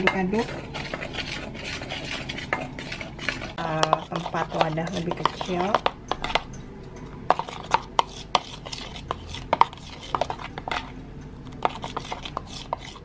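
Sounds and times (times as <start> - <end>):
spoon stirring thick glaze: 0.0 - 13.0.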